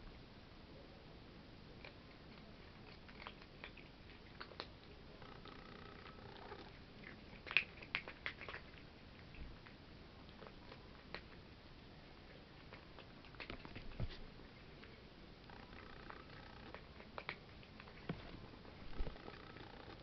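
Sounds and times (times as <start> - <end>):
cats crunching food: 1.6 - 20.0.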